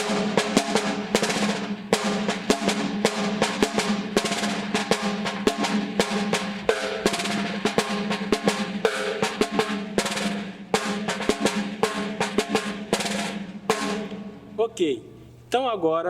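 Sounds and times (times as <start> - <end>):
snare drum rolls and accents: 0.0 - 14.7.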